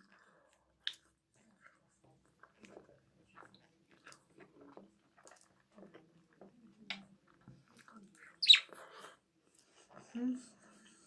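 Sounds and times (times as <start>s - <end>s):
person chewing soft food: 0.0s - 10.0s.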